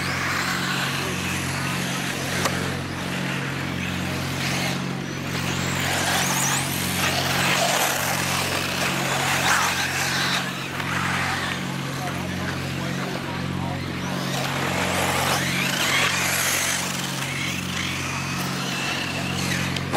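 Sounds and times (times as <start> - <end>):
electric motor whines: 0.0 - 19.9
steady low hum: 0.0 - 19.9
tyres on dirt: 0.0 - 19.9.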